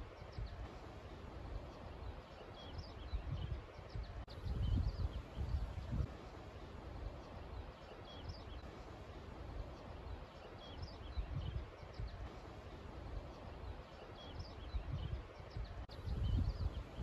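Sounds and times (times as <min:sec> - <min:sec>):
wind buffeting microphone: 0:00.0 - 0:07.6, 0:08.3 - 0:17.0
small birds chirping: 0:00.0 - 0:17.0.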